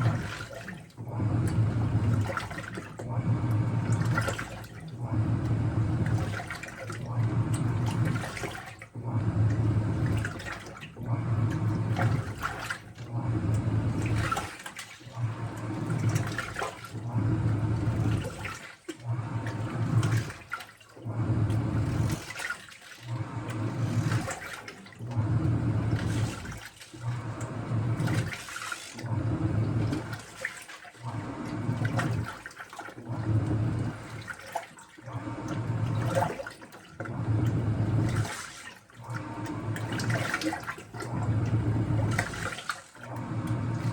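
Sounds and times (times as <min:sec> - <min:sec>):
washing machine spin cycle swishing: 0:00.0 - 0:43.9.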